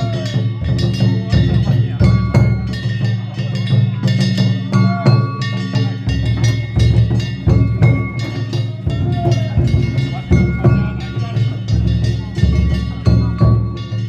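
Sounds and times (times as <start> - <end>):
metal gongs ringing: 0.0 - 14.0
taiko drum: 0.0 - 14.0.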